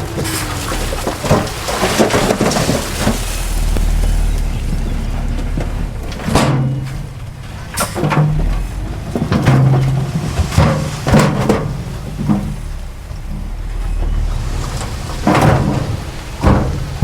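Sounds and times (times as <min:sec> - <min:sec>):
diesel engine rumble: 0:00.0 - 0:17.0
engine bursts: 0:00.0 - 0:17.0
knocks and clatter: 0:00.0 - 0:17.0.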